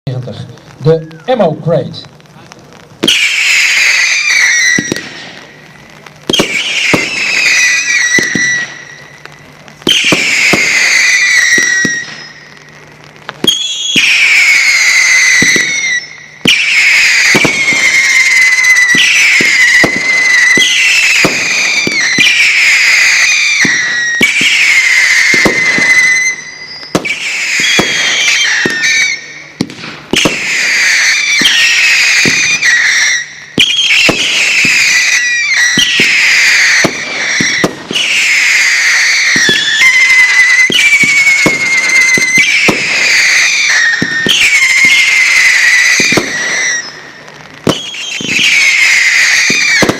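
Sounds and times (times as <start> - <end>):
firework bangs: 0.1 - 49.9
firework whistles falling in pitch: 3.0 - 12.7, 13.3 - 49.9.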